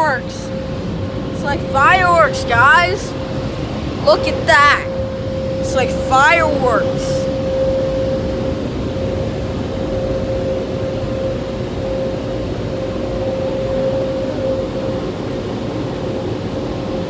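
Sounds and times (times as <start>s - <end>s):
constant mid-pitched tone: 0.0s - 17.0s.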